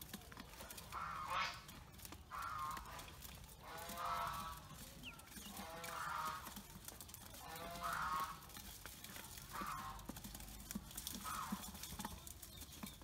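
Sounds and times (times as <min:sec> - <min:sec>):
ducklings pecking metal bowl: 0:00.0 - 0:13.0.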